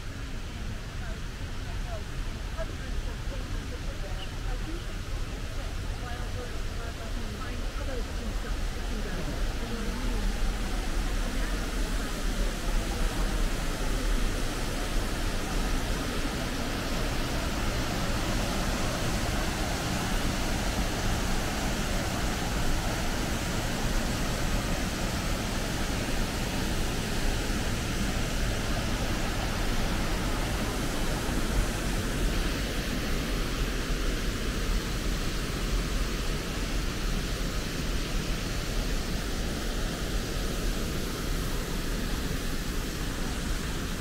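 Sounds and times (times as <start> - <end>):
waterfall rushing: 4.3 - 44.0.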